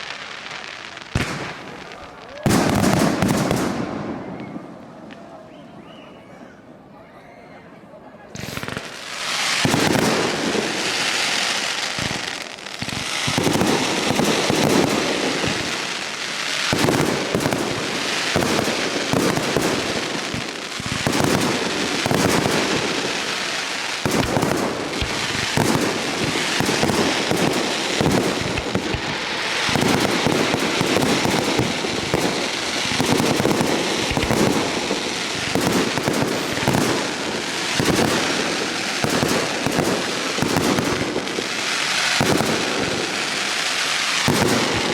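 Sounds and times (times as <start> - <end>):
sharp fireworks bangs: 0.0 - 5.0, 8.4 - 44.9
fireworks bursts and crackling: 0.0 - 5.4, 8.3 - 44.9.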